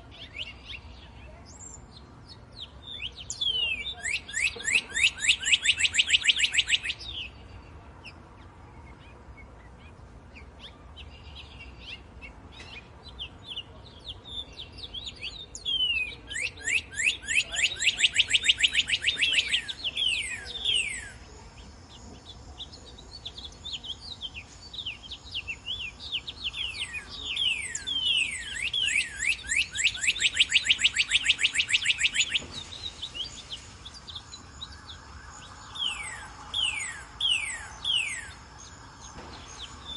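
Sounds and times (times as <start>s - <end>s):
soft bird chirps: 0.0s - 39.9s
bird whistled song: 2.8s - 7.7s, 10.6s - 39.9s.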